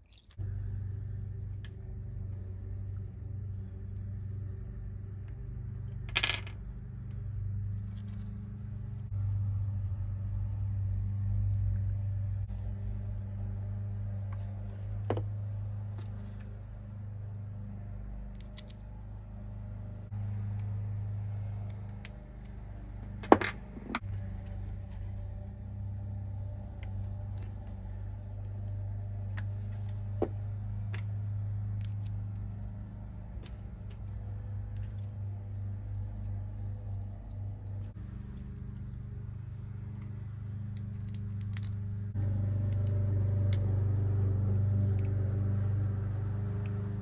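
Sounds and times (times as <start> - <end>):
steady low hum: 0.4 - 47.0.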